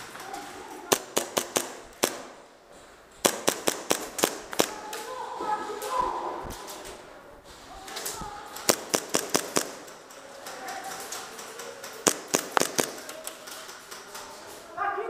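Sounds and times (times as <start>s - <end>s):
airsoft guns firing: 0.0s - 7.1s, 7.8s - 14.4s.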